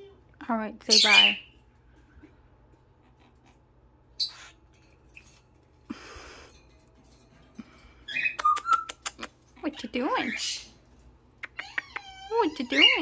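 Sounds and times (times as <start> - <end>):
parrots chirping and clicking: 0.9 - 13.0.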